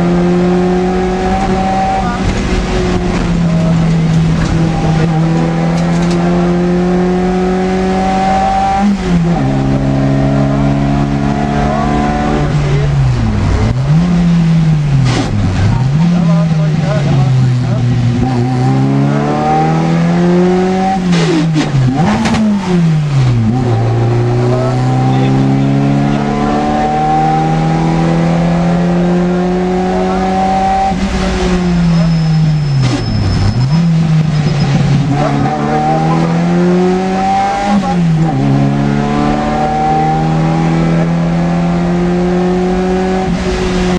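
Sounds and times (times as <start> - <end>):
car engine revving hard: 0.0 - 43.9.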